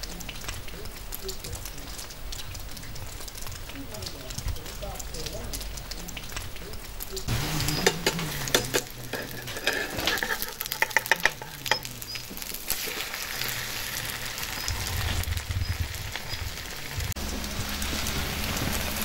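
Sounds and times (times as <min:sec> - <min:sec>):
food sizzling in hot oil: 0:00.0 - 0:19.0
oil crackling: 0:00.0 - 0:19.0.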